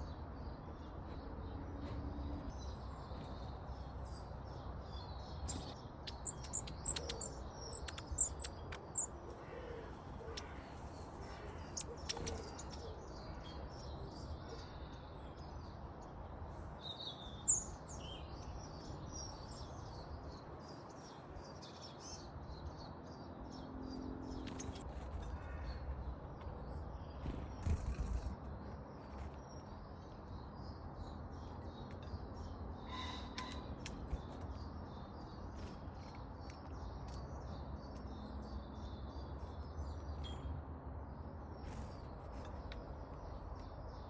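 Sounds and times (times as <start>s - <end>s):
songbirds chirping: 0.0s - 44.0s.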